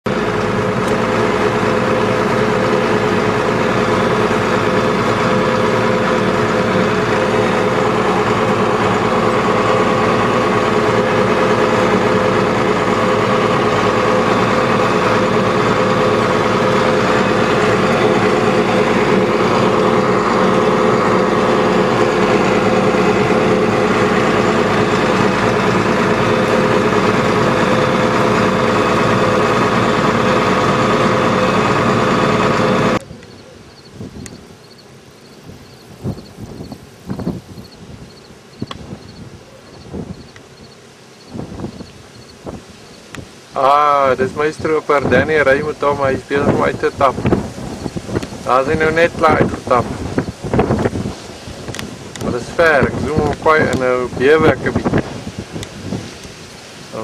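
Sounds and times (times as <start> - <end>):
combine harvester machinery drone: 0.0 - 57.0.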